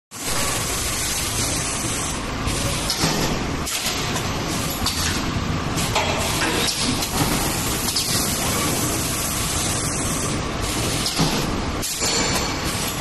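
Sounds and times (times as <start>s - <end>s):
forming machine hissing: 0.2s - 4.8s, 5.5s - 13.0s.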